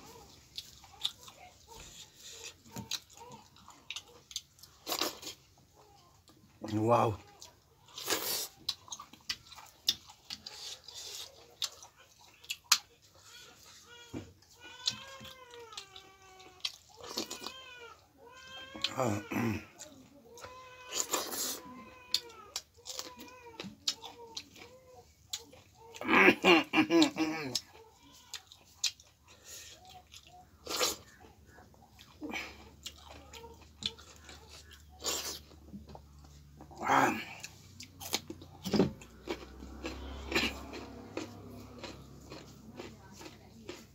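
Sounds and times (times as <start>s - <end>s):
close-up chewing: 0.0s - 43.9s.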